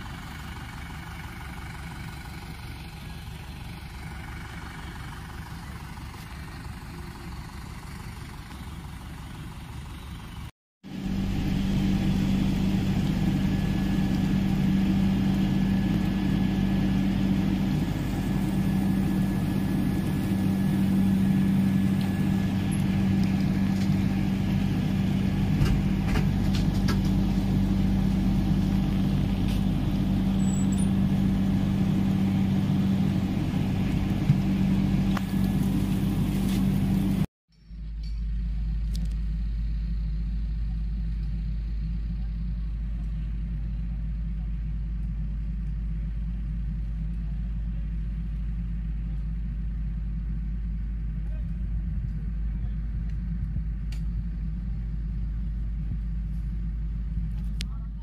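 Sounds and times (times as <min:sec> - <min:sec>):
low engine rumble: 0:00.0 - 0:58.0
moving train rumble: 0:00.0 - 0:58.0.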